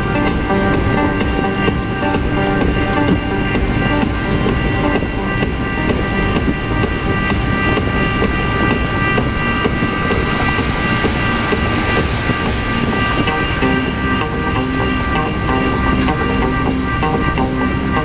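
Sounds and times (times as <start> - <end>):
car driving low rumble: 0.0 - 18.0
steady high tones: 0.0 - 18.0.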